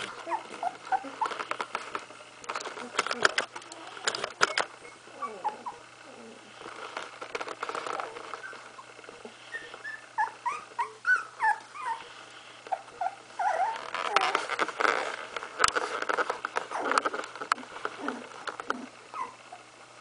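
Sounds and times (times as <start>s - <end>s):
puppies whimpering: 0.0s - 1.5s, 2.6s - 6.6s, 7.8s - 19.7s
rustling: 0.0s - 19.6s.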